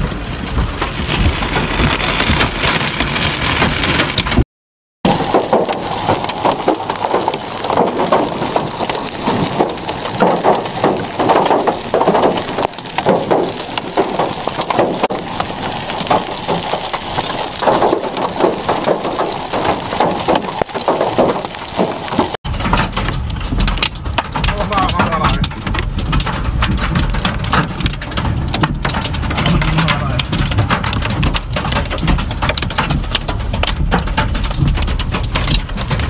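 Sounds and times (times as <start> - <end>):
hail clattering on hard surfaces: 0.0 - 4.4, 5.1 - 36.0.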